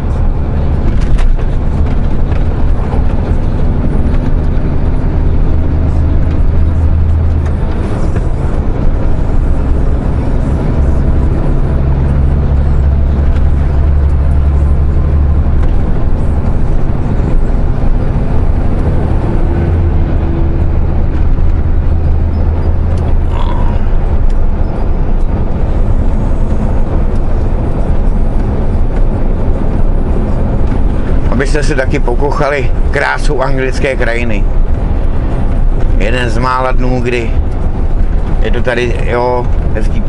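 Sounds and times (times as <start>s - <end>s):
road and tyre noise: 0.0s - 40.0s
truck diesel engine droning: 0.0s - 40.0s.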